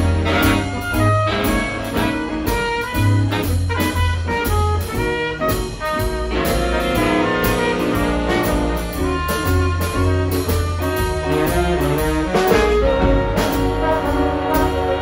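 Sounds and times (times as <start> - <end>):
big band playing jazz: 0.0 - 15.0
drums keeping a steady beat: 0.0 - 15.0.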